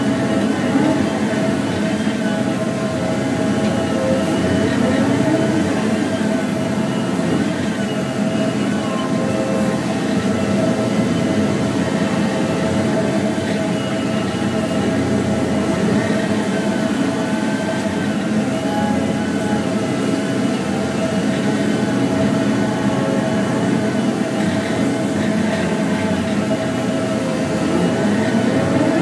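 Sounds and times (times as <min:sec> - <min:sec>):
diesel engine and hydraulics: 0:00.0 - 0:29.0
faint whine: 0:00.0 - 0:29.0.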